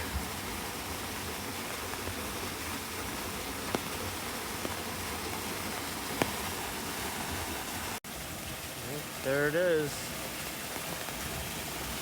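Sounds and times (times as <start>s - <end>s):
falling rain: 0.0s - 12.0s
waterfall rushing: 0.0s - 12.0s.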